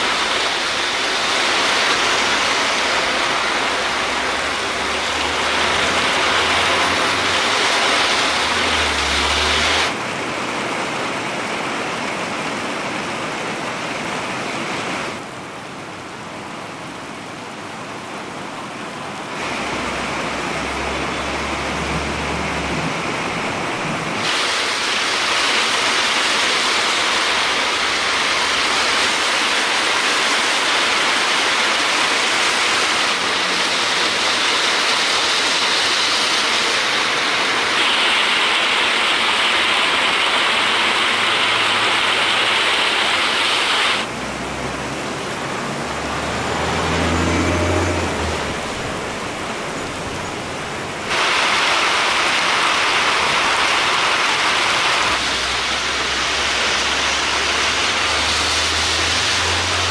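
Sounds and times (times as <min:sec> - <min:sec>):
water splashing: 0:00.0 - 0:10.0, 0:19.2 - 0:59.9
heavy rain hissing: 0:00.0 - 0:59.9.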